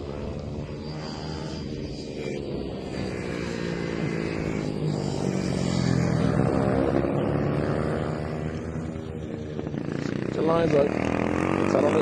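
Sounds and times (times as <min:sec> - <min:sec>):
motorcycle engines buzzing: 0:00.0 - 0:12.0.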